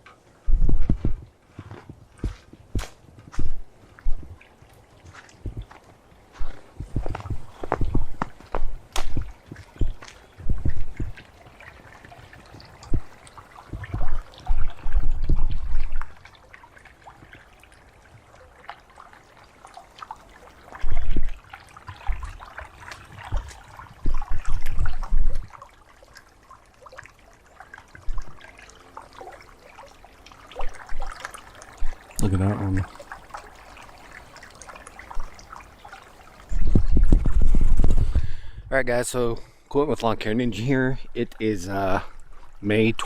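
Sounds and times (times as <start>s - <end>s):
water trickling and dripping: 0.0s - 38.4s, 39.2s - 43.0s.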